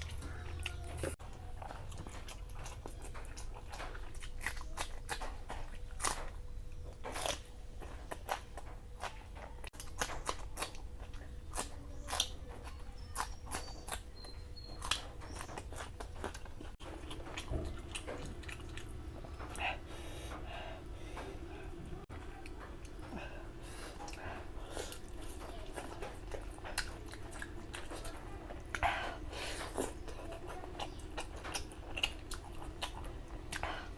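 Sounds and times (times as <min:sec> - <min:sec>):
person chewing crunchy food: 0:00.0 - 0:21.4, 0:22.1 - 0:33.9.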